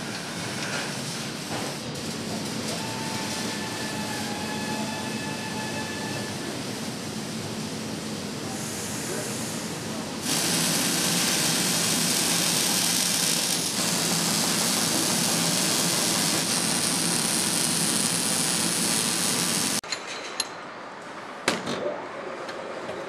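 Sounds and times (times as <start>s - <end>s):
welding torch sizzling hiss: 0.0s - 19.8s.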